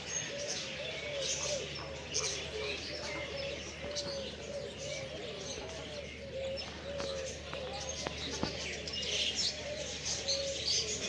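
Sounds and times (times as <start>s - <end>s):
birds chirping and twittering: 0.0s - 11.0s
birds cooing: 0.0s - 11.0s.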